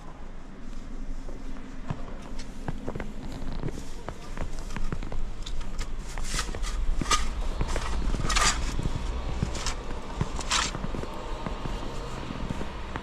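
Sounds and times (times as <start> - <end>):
wind rumble on microphone: 0.1 - 13.0
footsteps crunching through snow: 0.2 - 13.0.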